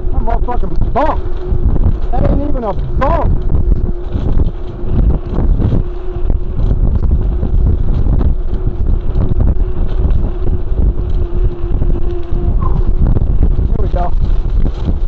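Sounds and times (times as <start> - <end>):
bike knocking and rattling: 0.0 - 15.0
steady hum: 0.0 - 15.0
wind buffeting microphone: 0.0 - 15.0.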